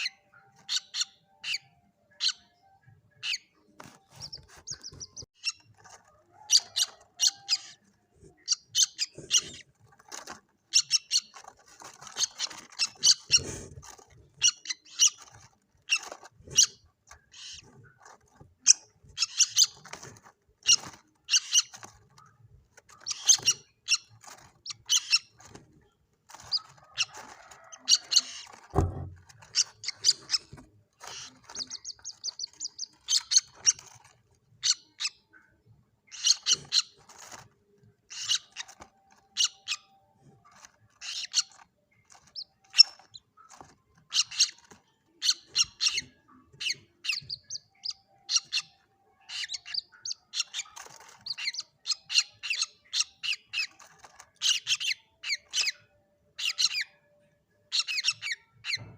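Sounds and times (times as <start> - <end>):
bird trill: 0.0 - 25.5, 26.3 - 37.4, 38.0 - 58.9
young moorhen chirping: 0.0 - 58.9.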